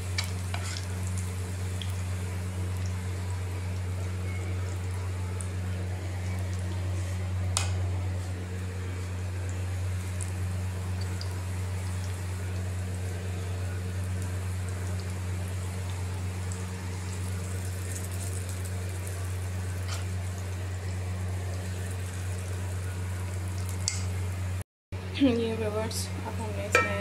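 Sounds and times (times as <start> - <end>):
oil bubbling while deep-frying: 0.0 - 24.6
steady low hum: 0.0 - 27.0.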